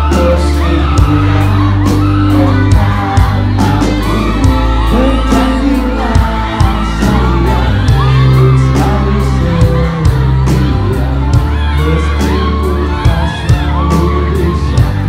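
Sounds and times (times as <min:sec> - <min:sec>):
crowd shouting: 0:00.0 - 0:15.0
heavy bass: 0:00.0 - 0:15.0
live pop band over loudspeakers: 0:00.0 - 0:15.0
person singing: 0:00.0 - 0:15.0.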